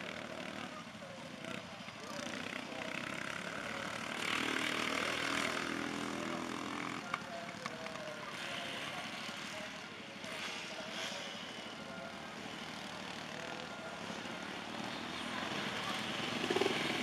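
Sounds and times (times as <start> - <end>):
ride-on lawn mower engines racing: 0.0 - 17.0.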